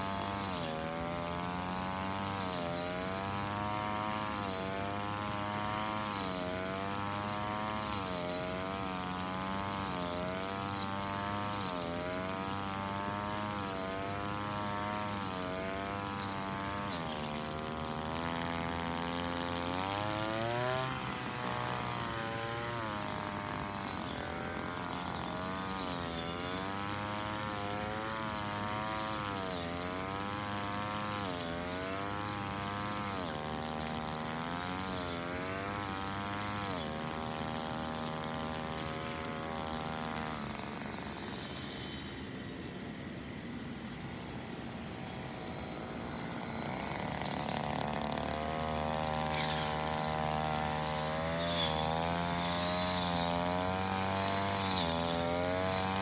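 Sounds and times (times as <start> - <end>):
brush cutter engine: 0.0 - 56.0.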